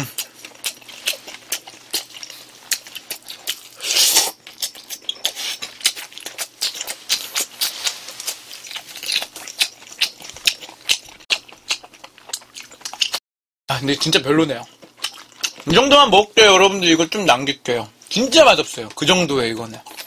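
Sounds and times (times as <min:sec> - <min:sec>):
wet chewing and mouth clicks: 0:00.0 - 0:13.2, 0:13.8 - 0:15.9, 0:18.1 - 0:20.0.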